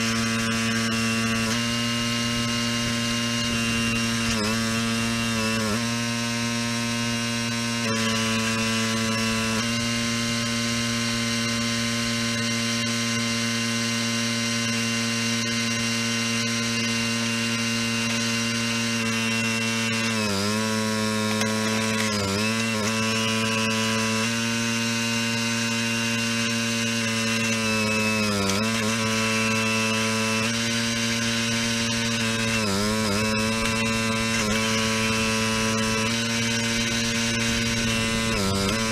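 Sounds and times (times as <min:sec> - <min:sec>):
small engine running steadily: 0:00.0 - 0:38.9.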